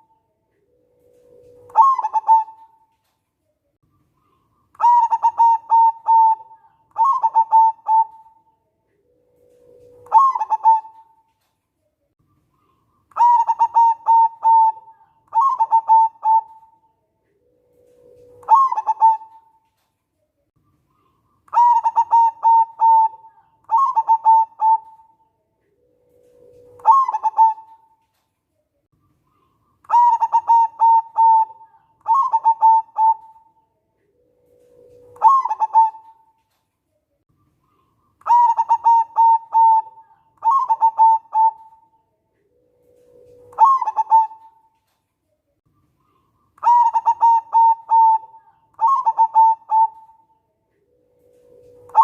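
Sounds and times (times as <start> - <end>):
dove cooing: 0.0 - 2.9, 4.2 - 11.4, 12.6 - 19.6, 20.9 - 28.1, 29.3 - 36.6, 37.6 - 44.9, 46.0 - 52.0.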